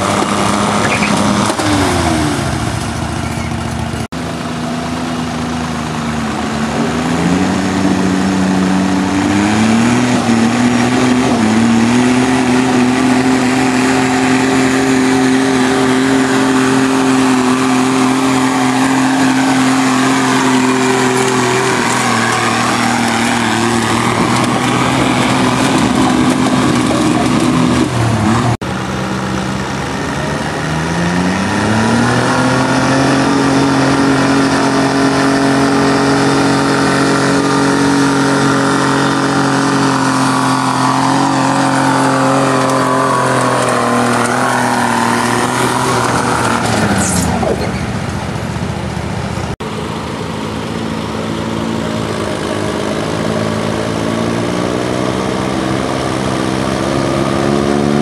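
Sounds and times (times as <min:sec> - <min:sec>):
tractor engine revving under load: 0:00.0 - 0:58.0
tractor engine running low: 0:00.0 - 0:58.0.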